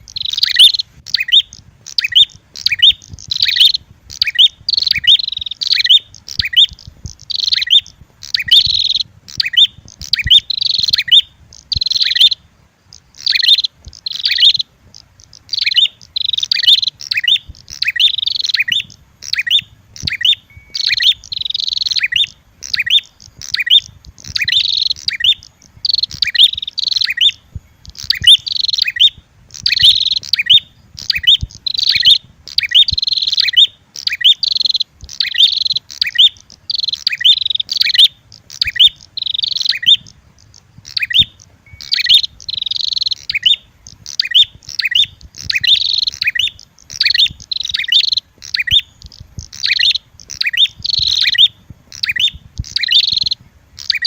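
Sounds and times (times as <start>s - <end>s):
rapid high bird chirps: 0.0s - 54.0s.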